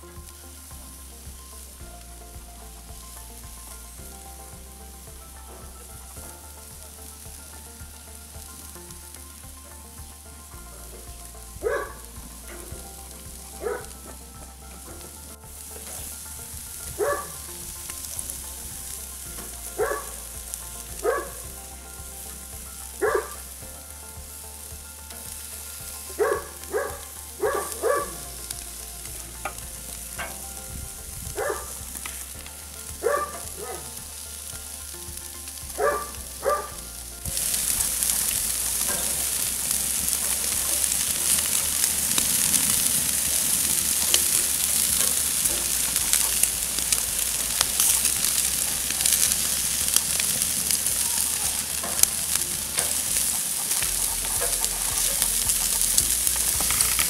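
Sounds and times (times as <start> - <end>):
meat sizzling on a grill: 0.0 - 57.0.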